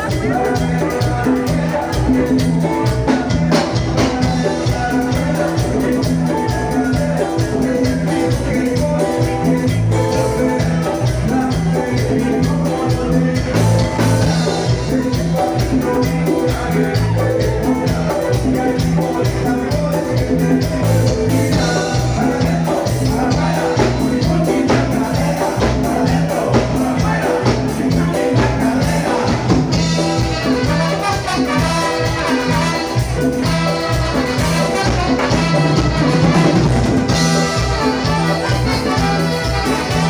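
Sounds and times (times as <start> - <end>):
latin dance music band: 0.0 - 40.0.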